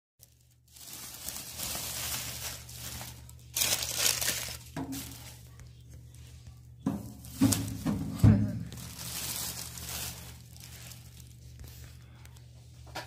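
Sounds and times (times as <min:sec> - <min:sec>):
plastic film crinkling and tearing: 0:00.2 - 0:06.2, 0:06.9 - 0:12.5.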